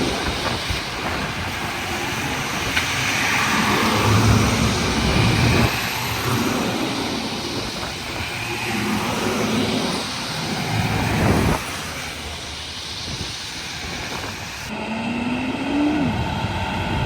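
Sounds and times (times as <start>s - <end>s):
truck engine accelerating: 0.0s - 17.0s.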